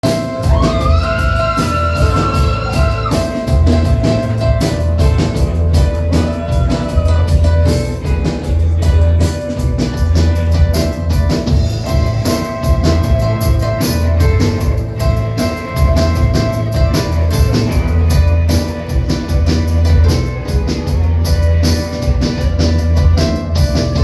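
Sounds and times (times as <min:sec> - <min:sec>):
drum kit beating: 0:00.0 - 0:24.0
low bass notes: 0:00.0 - 0:24.0.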